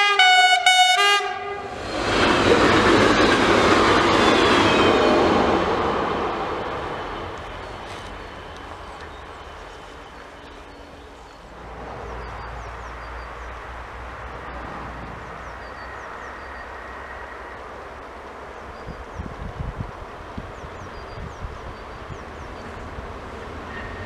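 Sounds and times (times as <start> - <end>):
passing train rumble: 0.0 - 24.0
steady outdoor hiss: 0.0 - 24.0.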